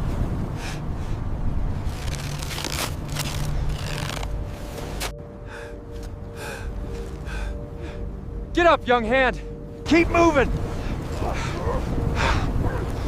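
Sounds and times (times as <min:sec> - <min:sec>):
storm wind: 0:00.0 - 0:13.0.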